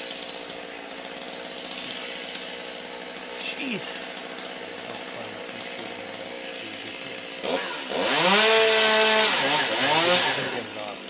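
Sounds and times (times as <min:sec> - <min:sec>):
chainsaw idling and revving: 0:00.0 - 0:11.0.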